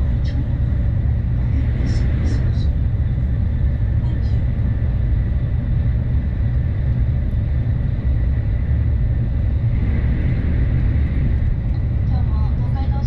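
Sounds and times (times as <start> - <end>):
train cabin rumble: 0.0 - 13.0.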